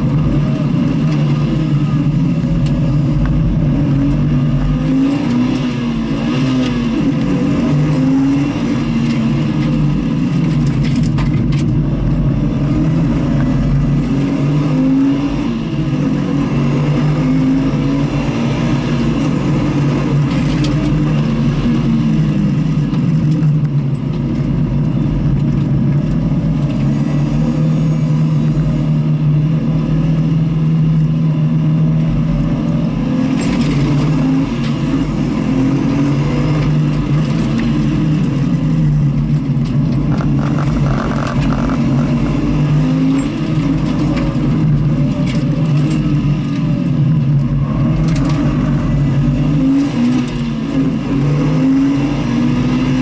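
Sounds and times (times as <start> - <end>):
car engine accelerating and braking: 0.0 - 53.0.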